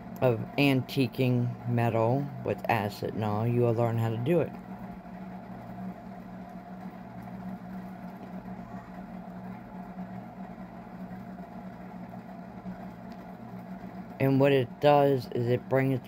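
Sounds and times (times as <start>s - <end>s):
low mechanical hum with tones: 0.0s - 16.0s.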